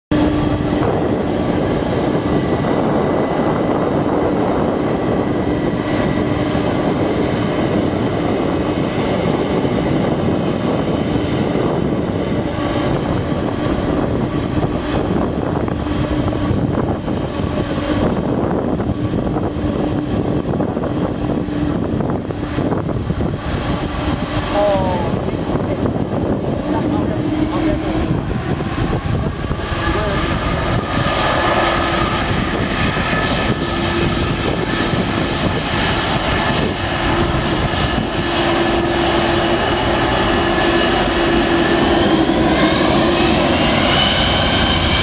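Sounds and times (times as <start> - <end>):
jet engines running: 0.1 - 45.0.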